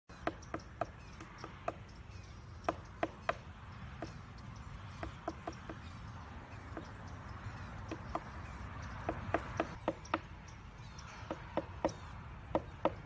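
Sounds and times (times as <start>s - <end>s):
woodpecker knocking on wood: 0.1s - 10.6s, 11.2s - 13.0s.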